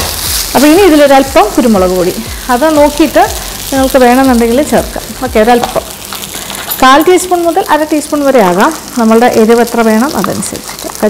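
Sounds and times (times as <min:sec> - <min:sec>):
rice sizzling in a wok: 0:00.0 - 0:11.0
woman speaking: 0:00.6 - 0:05.8, 0:06.8 - 0:11.0.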